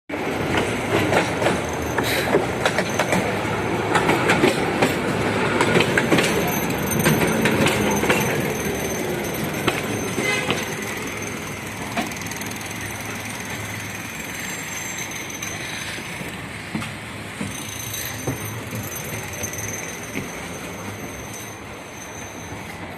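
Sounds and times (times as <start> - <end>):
tram body rattling: 0.1 - 22.9
wheels clattering over track joints: 0.4 - 21.7.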